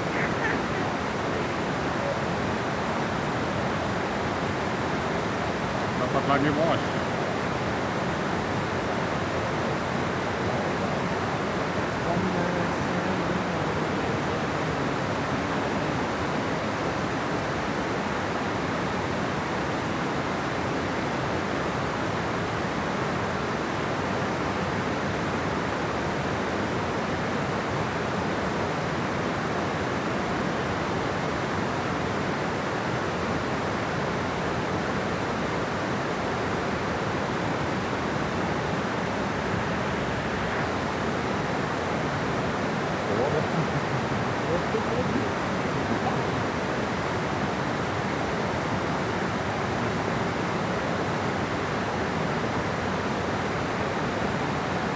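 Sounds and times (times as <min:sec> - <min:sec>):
water rushing at a dam: 0:00.0 - 0:54.9.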